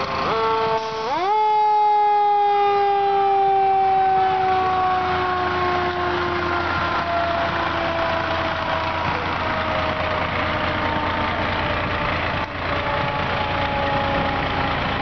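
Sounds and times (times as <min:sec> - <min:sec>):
faint siren: 0:00.0 - 0:15.0
fire engine idling: 0:00.0 - 0:15.0.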